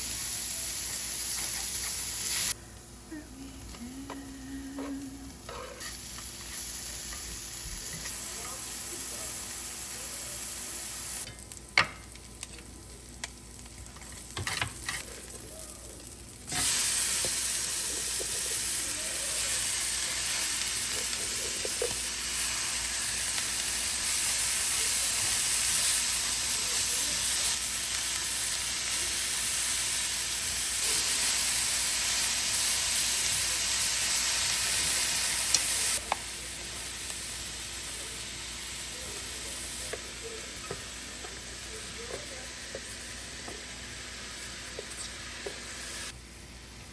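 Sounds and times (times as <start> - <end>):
food sizzling in a pan: 0.0 - 2.6, 3.8 - 46.2.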